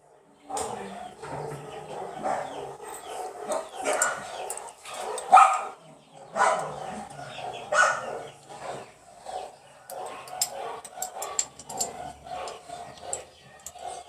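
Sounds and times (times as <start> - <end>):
dog barking: 0.5 - 14.0.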